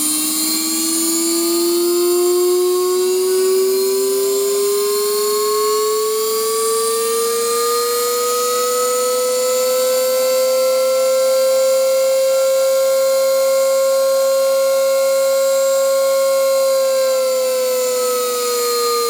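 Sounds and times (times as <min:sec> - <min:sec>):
motor whine rising in pitch: 0:00.0 - 0:19.0.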